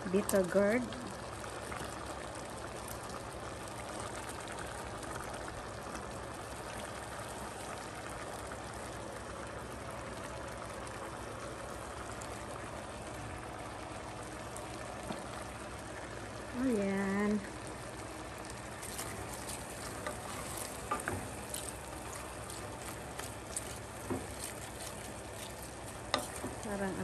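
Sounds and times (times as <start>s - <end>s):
soup simmering with bubbling hiss: 0.0s - 27.0s.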